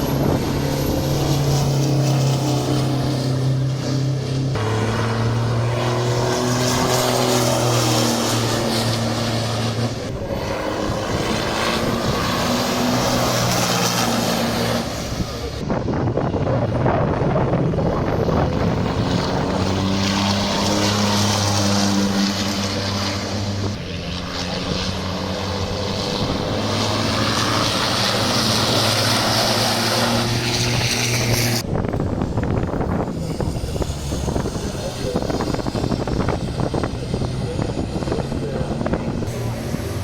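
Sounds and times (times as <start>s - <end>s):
race truck engines running: 0.0s - 40.0s.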